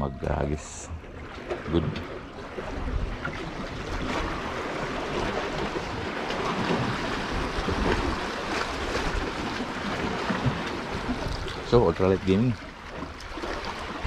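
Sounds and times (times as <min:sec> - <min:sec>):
wind rumbling on microphone: 0:00.0 - 0:12.6
sea waves washing: 0:00.0 - 0:14.0.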